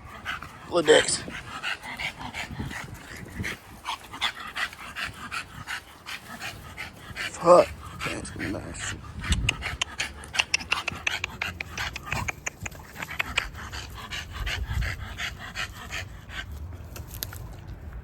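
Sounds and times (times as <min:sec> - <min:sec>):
puppy panting rapidly: 0:00.0 - 0:16.7.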